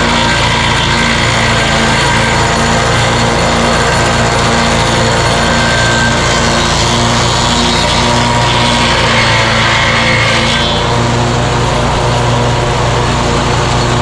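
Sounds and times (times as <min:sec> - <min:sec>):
stump grinder grinding: 0:00.0 - 0:14.0.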